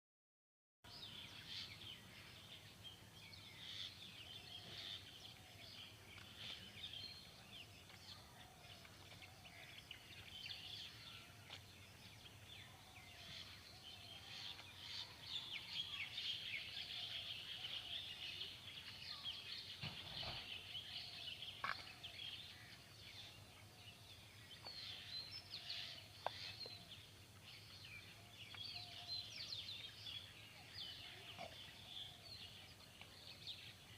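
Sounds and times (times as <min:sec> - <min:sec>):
small birds chirping: 0:00.9 - 0:33.9.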